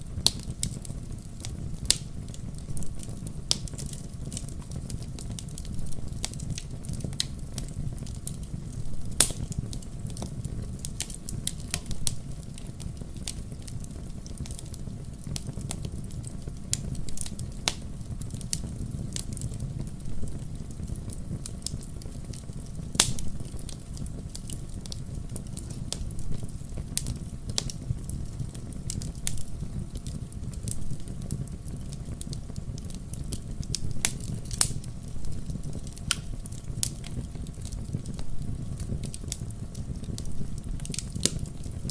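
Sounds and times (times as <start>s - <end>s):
low rumble of fire: 0.0s - 41.9s
wood fire crackling and popping: 0.0s - 41.9s.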